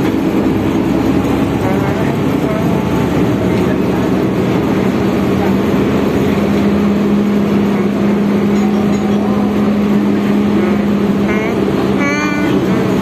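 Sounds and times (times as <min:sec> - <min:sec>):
bus drivetrain and road rumble: 0:00.0 - 0:13.0
constant low hum: 0:00.0 - 0:13.0.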